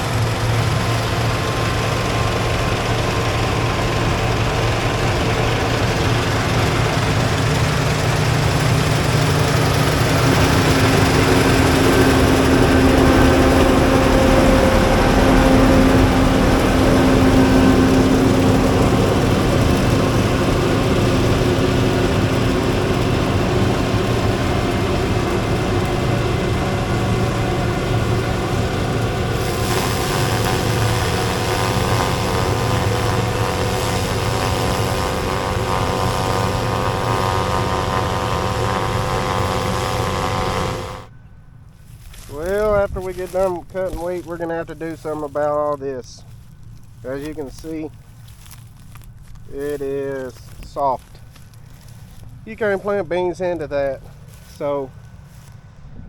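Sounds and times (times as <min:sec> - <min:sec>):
heavy farm vehicle engine running: 0:00.0 - 0:56.0.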